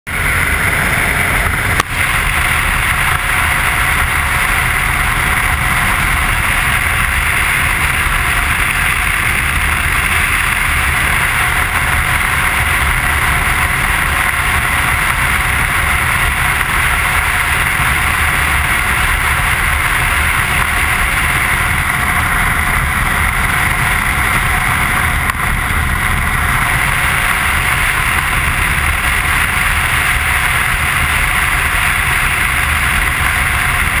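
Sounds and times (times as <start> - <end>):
motorcycle engine: 0.1 - 34.0
wind rush on microphone: 0.1 - 34.0.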